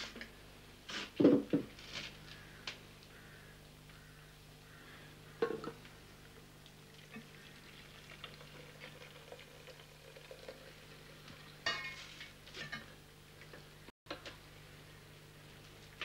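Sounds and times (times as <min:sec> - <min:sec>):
steady low hum: 0:02.0 - 0:16.0.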